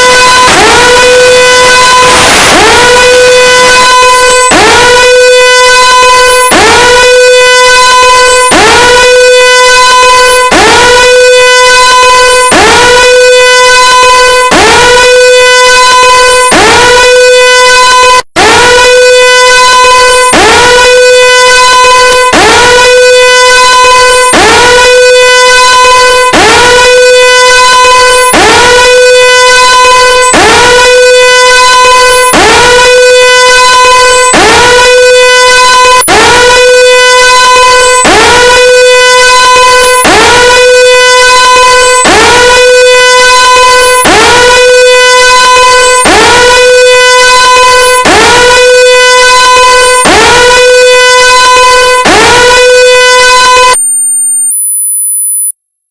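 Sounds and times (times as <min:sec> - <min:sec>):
tv no-signal siren tone: 0:00.0 - 0:55.9.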